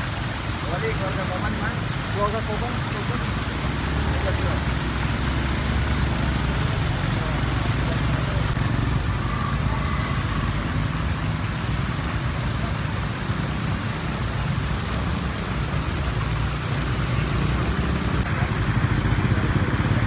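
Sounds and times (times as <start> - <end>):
floodwater rushing over rocks: 0.0 - 20.0.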